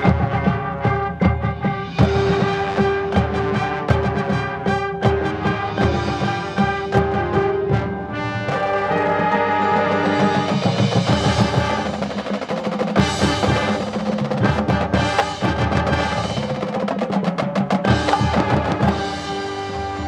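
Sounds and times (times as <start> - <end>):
drums beating fast rhythm: 0.0 - 20.0
marching band playing: 0.0 - 20.0.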